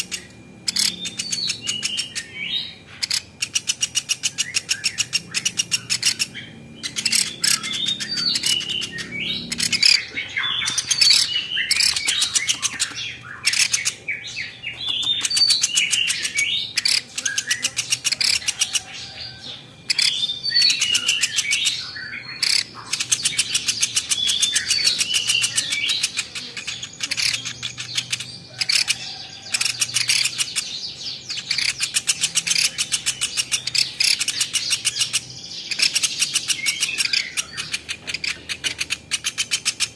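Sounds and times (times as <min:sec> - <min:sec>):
bird calling with rapid chips: 0:00.0 - 0:39.9.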